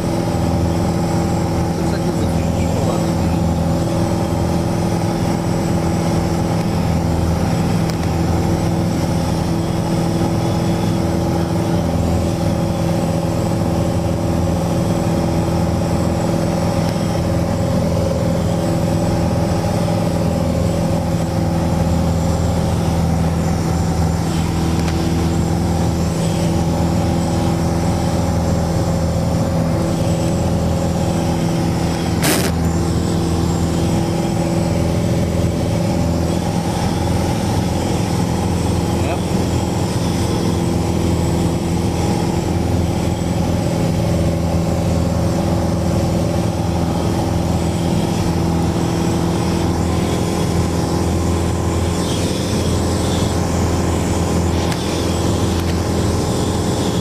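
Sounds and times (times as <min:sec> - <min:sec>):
plane engine cabin drone: 0:00.0 - 0:57.0.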